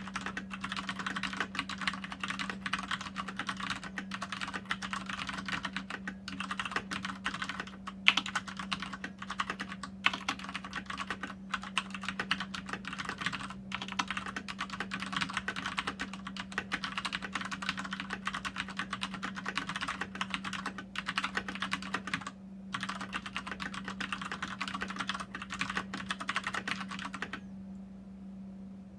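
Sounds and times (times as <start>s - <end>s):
mechanical keyboard typing: 0.0s - 27.4s.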